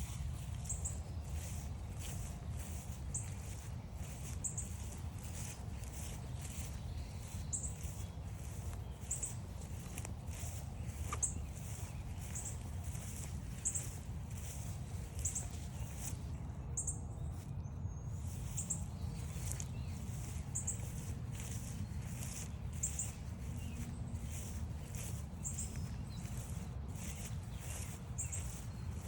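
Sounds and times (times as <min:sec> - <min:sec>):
footsteps on forest trail: 0:00.0 - 0:17.6, 0:18.2 - 0:29.0.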